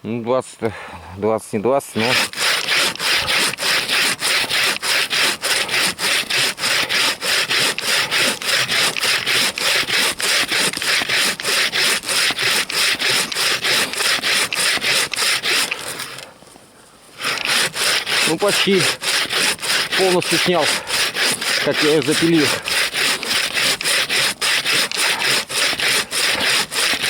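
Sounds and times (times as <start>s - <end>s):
bow saw rasping through log: 1.9s - 16.3s, 17.2s - 27.0s.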